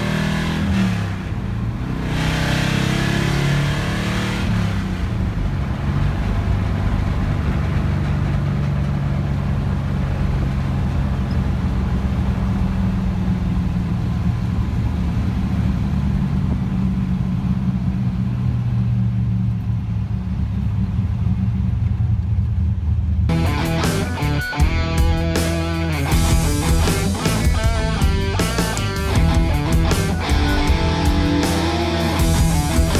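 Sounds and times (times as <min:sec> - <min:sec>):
truck engine running steadily: 0:00.0 - 0:32.9.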